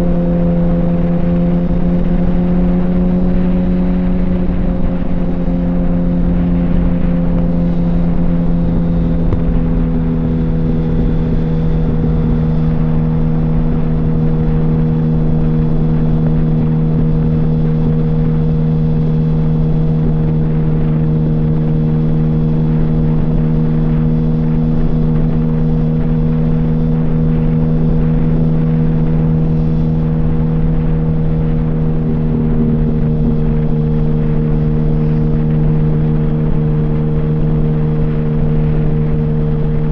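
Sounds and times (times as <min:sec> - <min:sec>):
motorcycle engine revving steadily: 0:00.0 - 0:39.9.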